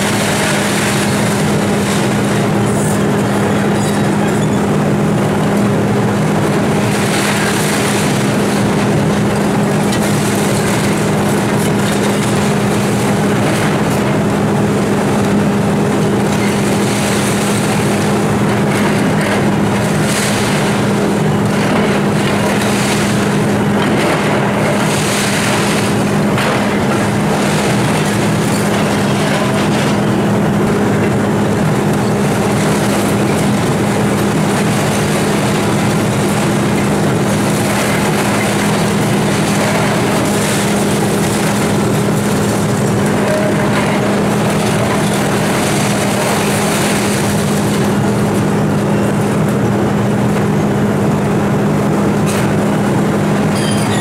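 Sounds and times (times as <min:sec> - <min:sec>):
rubble crashing and clattering: 0:00.0 - 0:04.5, 0:06.4 - 0:14.4, 0:15.3 - 0:49.4
excavator diesel engine droning: 0:00.0 - 0:54.0.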